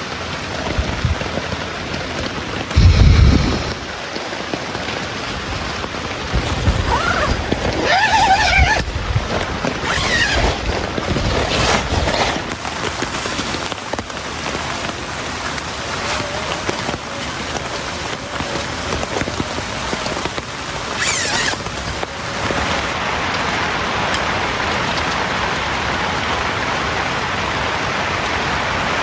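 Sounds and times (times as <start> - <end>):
heavy rain falling: 0.0 - 21.0, 21.7 - 29.0.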